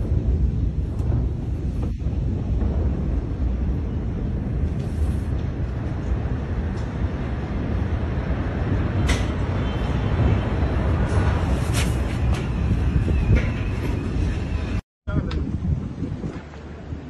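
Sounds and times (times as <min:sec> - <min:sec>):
heavy low explosion rumble: 0:00.0 - 0:17.0.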